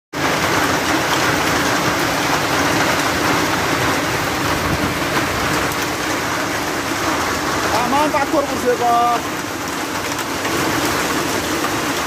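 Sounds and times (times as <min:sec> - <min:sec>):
hail and rain falling hard: 0:00.2 - 0:12.0.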